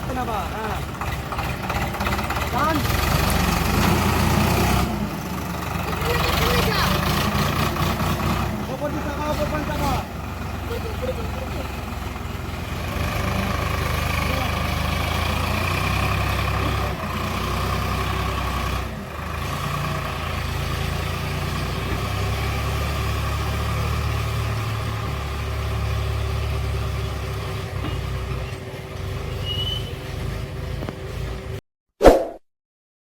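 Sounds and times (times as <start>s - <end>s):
tractor diesel engine running: 0.0s - 31.6s.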